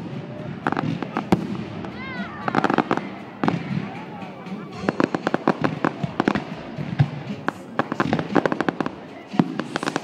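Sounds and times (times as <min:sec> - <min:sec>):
fireworks bangs: 0:00.0 - 0:10.0
fireworks crackling and popping: 0:00.0 - 0:10.0.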